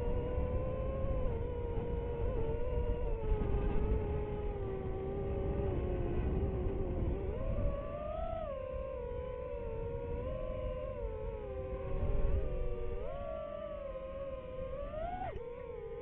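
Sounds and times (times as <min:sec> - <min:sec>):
drone propellers whining: 0:00.0 - 0:16.0
low wind rumble: 0:00.0 - 0:16.0.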